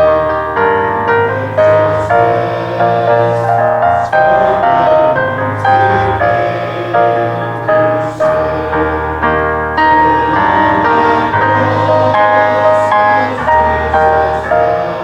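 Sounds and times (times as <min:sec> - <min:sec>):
slow keyboard music: 0:00.0 - 0:15.0.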